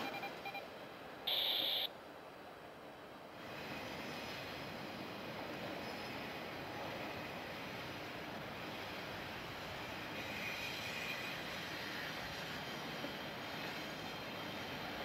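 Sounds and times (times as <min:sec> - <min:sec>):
idling railroad equipment rumble: 0:00.0 - 0:15.0.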